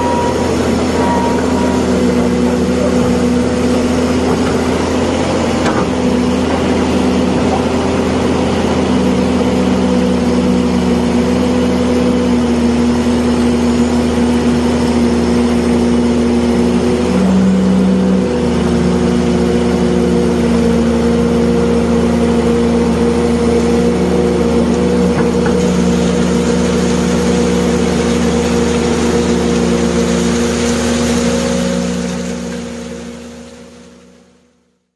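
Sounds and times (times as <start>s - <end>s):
excavator engine running: 0.0s - 34.5s.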